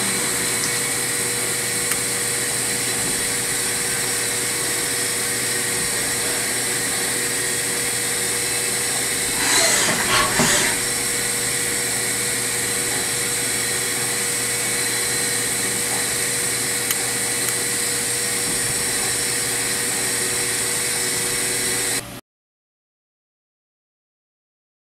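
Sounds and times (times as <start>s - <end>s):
noisy machine burst: 0.0s - 22.0s
machine whirring and whining: 0.0s - 22.2s.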